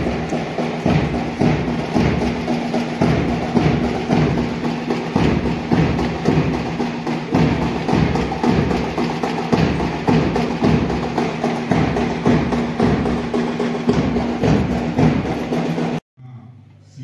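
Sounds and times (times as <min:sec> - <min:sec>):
drums beating marching rhythm: 0:00.0 - 0:16.0.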